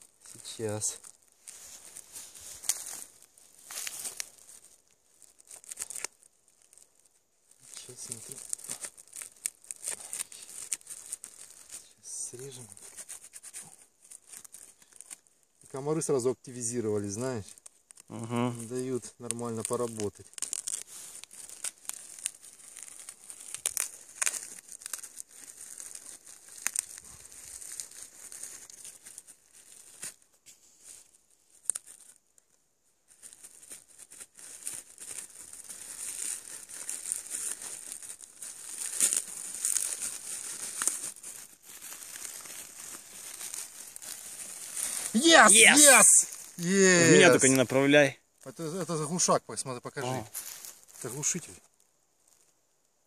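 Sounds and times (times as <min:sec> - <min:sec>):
crinkly wrapping being torn: 0:00.0 - 0:52.6.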